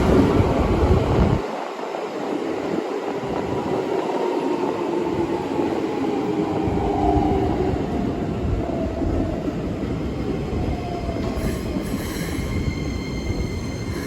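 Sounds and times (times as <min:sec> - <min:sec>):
electric train rumbling past: 0:00.0 - 0:14.0.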